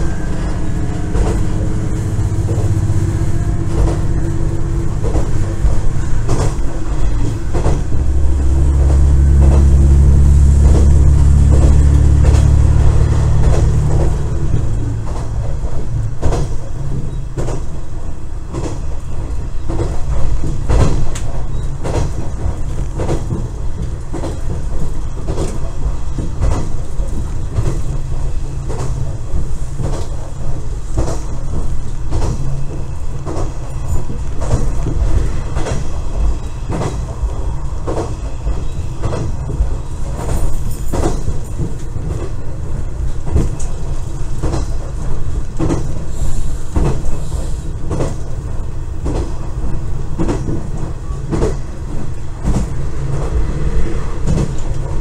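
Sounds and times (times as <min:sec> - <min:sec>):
railcar engine rumble: 0:00.0 - 0:55.0
wheels clicking over rail joints: 0:00.0 - 0:55.0.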